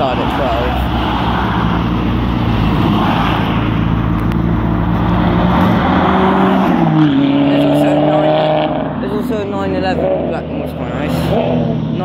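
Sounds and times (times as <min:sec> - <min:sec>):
car engines running at low revs: 0:00.0 - 0:12.0.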